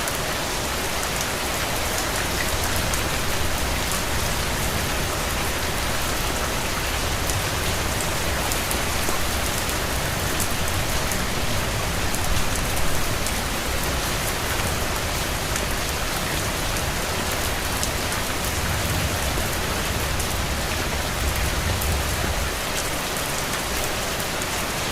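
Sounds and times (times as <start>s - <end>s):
rain pattering on surface: 0.0s - 24.9s.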